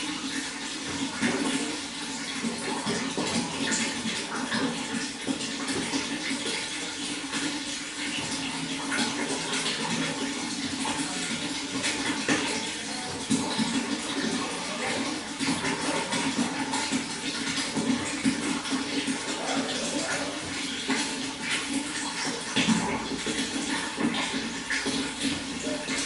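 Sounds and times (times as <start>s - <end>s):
water flowing and splashing: 0.0s - 26.0s.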